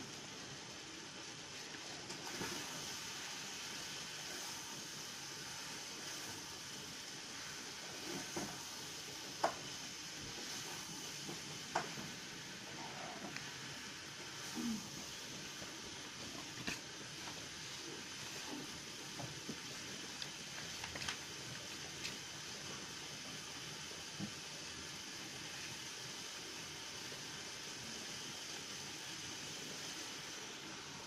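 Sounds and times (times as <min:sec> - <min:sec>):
low hiss of room tone: 0:00.0 - 0:31.0.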